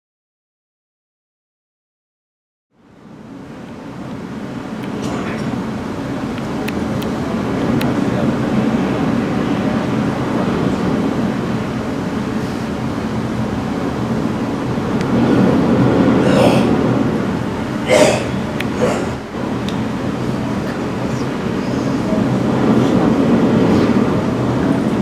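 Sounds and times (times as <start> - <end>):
low rumbling drone: 2.8 - 25.0.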